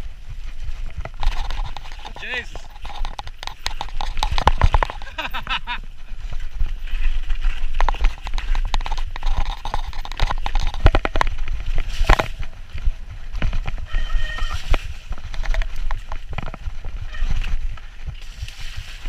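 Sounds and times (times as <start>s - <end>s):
bike rattling and knocking: 0.0s - 19.0s
tyres rumbling over dirt: 0.0s - 19.0s.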